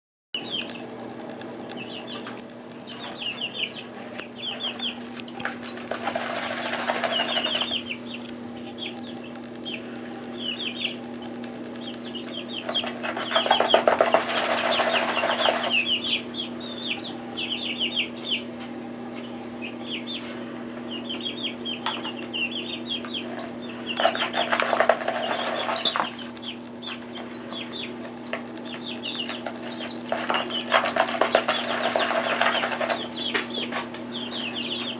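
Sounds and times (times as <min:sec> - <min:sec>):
chicks peeping: 0:00.4 - 0:34.9
steady low hum: 0:00.4 - 0:34.9.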